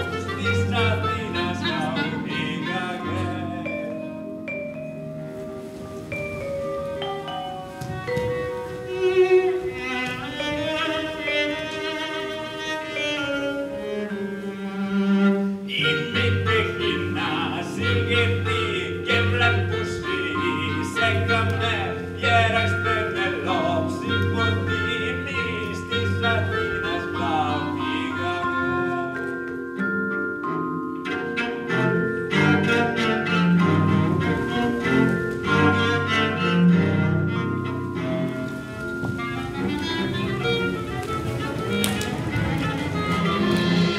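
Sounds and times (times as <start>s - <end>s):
percussion: 0.0s - 14.4s, 15.6s - 43.9s
bowed strings slow melody: 0.0s - 43.9s
mallet keyboard instrument: 0.0s - 43.9s.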